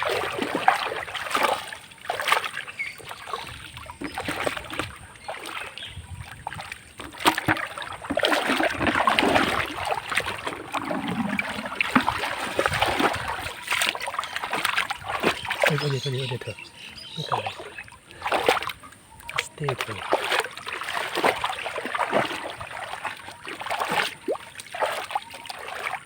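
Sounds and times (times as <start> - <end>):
hands splashing in muddy water: 0.0 - 26.0.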